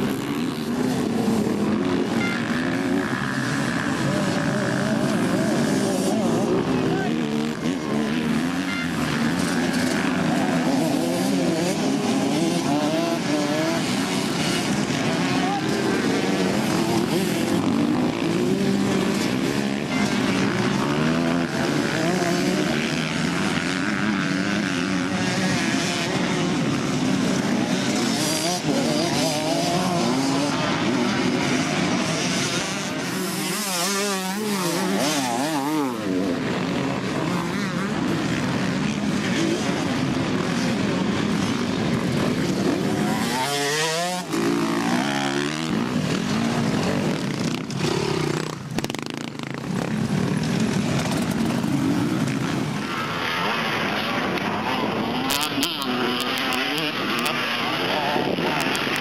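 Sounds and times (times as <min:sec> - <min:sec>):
dirt bike engines revving: 0:00.0 - 0:59.0
dirt bike passing close: 0:00.0 - 0:59.0.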